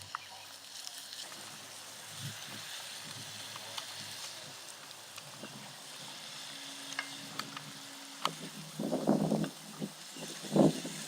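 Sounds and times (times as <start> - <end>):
meat sizzling over fire: 0.0 - 11.0.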